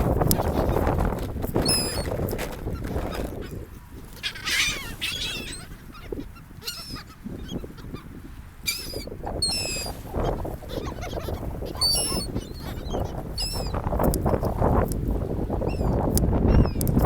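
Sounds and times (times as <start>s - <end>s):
seagulls calling: 0.0s - 14.8s, 15.4s - 16.9s.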